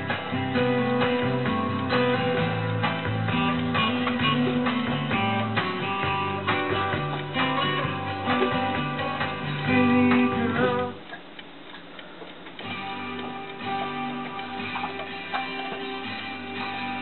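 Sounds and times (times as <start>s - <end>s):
guitar rock music: 0.0s - 11.0s, 12.6s - 17.0s.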